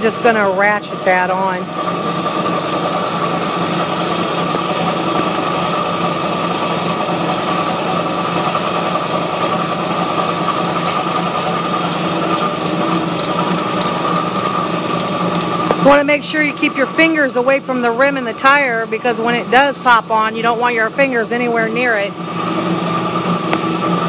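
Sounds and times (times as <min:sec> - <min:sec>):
air compressor humming: 0:00.0 - 0:24.0.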